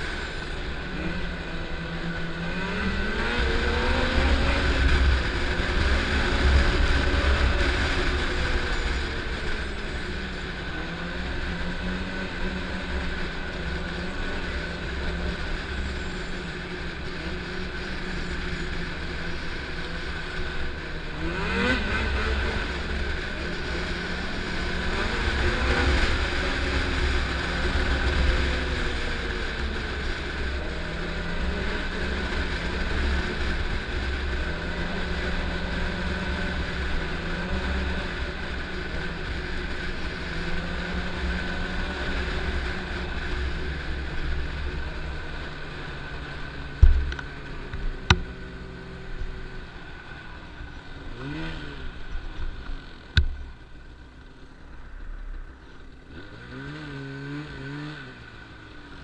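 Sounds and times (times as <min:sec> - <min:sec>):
snowmobile engine: 0:00.0 - 0:59.0.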